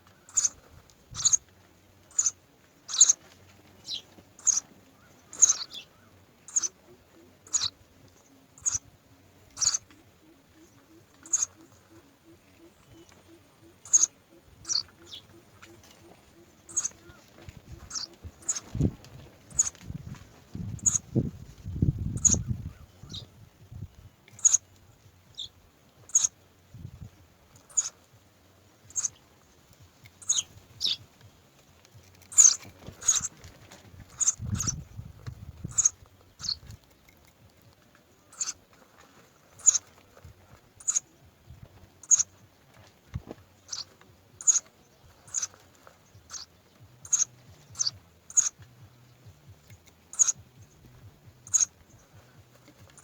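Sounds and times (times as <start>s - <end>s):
birds chirping: 0.0s - 53.0s
rustle of movement: 0.0s - 53.0s.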